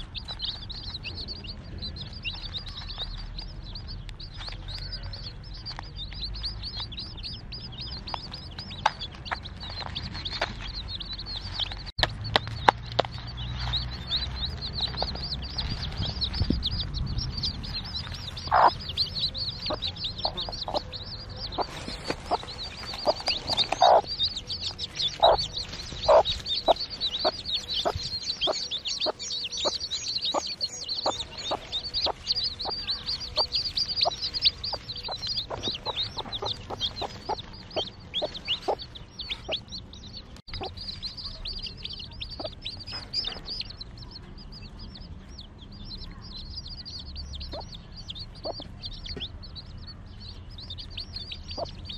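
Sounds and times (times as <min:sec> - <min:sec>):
chicks peeping shrilly: 0:00.0 - 0:51.9
hen clucking: 0:04.2 - 0:16.8, 0:17.6 - 0:44.1, 0:47.2 - 0:49.3, 0:50.6 - 0:51.9.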